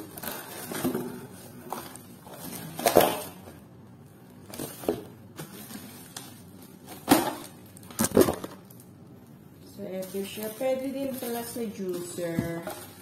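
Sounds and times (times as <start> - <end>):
cardboard and plastic packaging rustling: 0.0 - 8.9, 9.6 - 13.0.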